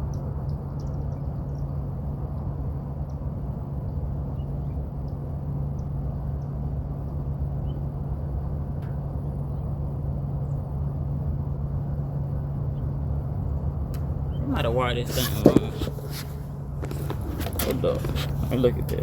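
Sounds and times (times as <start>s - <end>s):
air conditioner hum: 0.0s - 19.0s.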